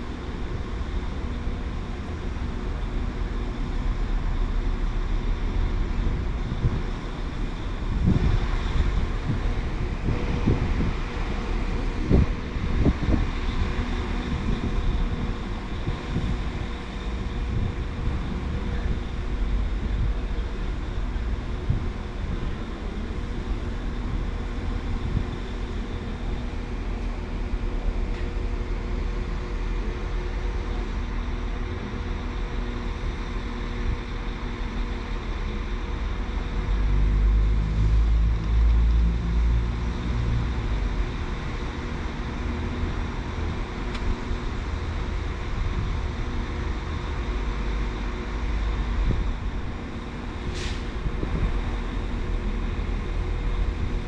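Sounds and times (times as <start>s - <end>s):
train engine rumble and hum: 0.0s - 54.0s.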